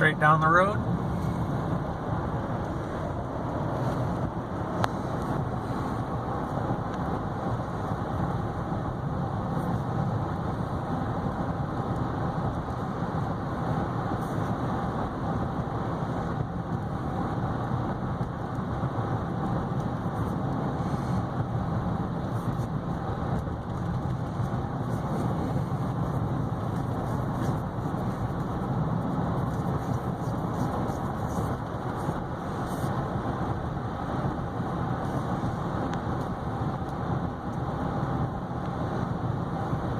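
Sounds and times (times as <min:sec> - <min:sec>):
car interior driving noise: 0:00.0 - 0:39.9.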